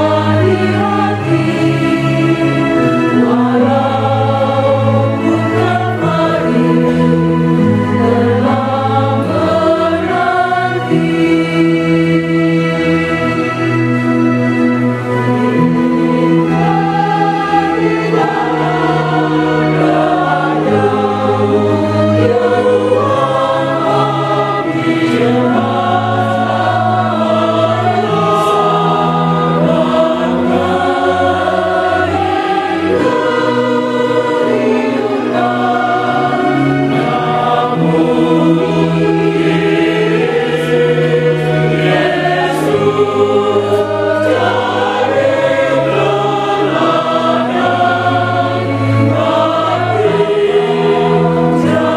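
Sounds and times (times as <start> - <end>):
mixed choir singing a hymn: 0.0 - 51.9.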